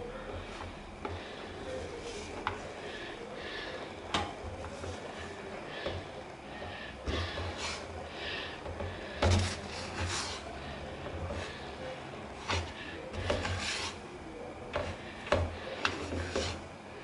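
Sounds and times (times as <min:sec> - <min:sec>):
spatula scraping dough in pan: 0:00.2 - 0:03.8, 0:04.4 - 0:17.0.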